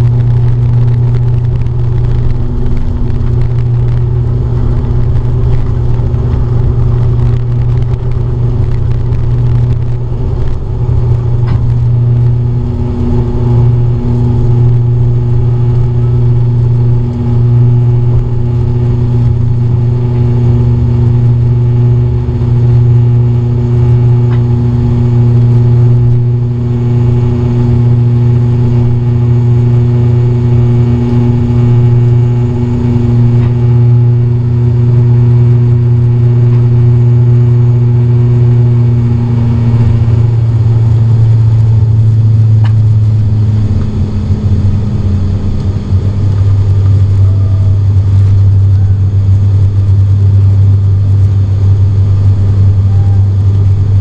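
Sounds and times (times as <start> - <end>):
propeller drone in cabin: 0.0 - 54.0.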